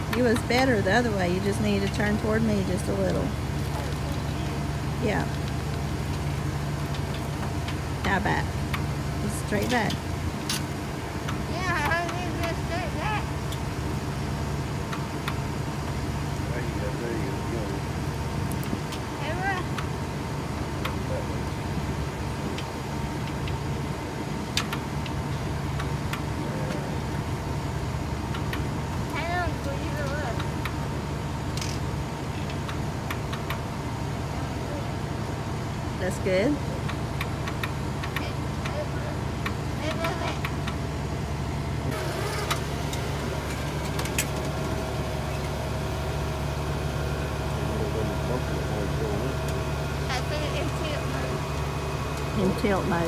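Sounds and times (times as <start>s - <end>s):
van engine idling: 0.0s - 53.0s.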